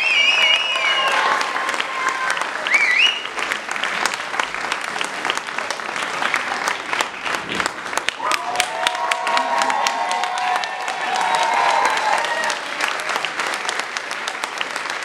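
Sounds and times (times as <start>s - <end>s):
audience clapping: 0.0s - 15.0s
crowd cheering: 0.0s - 15.0s.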